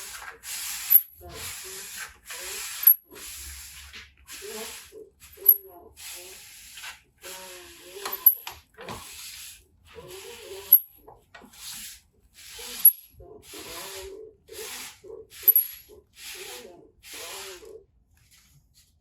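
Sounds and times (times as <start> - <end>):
hand rubbing metal: 0.0 - 17.8.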